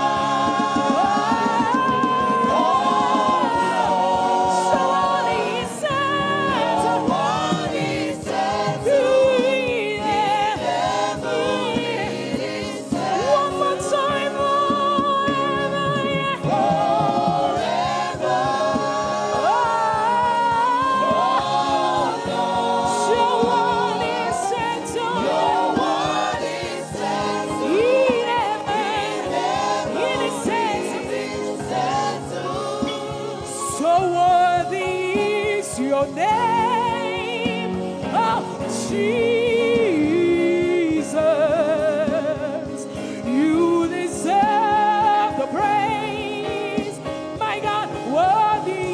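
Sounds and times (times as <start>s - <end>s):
instrumental accompaniment: 0.0s - 48.9s
voices singing together: 0.0s - 48.9s.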